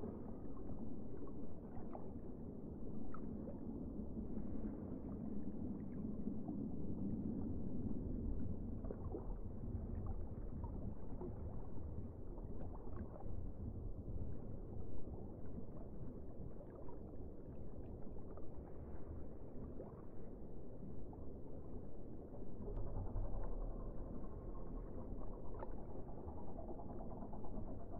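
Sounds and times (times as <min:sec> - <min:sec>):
underwater rumble of moving water: 0:00.0 - 0:27.9.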